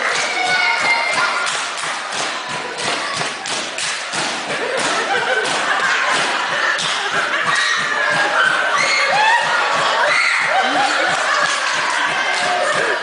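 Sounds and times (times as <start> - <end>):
rhythmic hand claps and slaps: 0.0 - 13.0.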